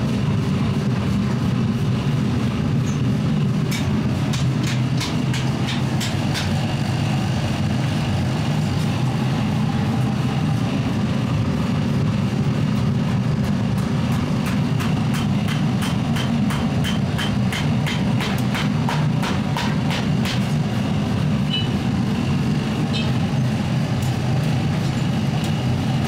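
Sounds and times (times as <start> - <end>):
workshop machinery rumbling: 0.0 - 26.0.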